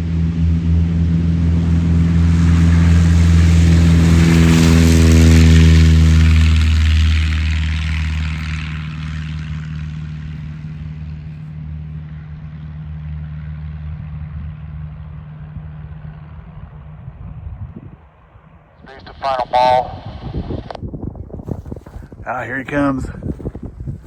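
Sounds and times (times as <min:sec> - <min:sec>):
light plane engine and propeller: 0:00.0 - 0:24.0.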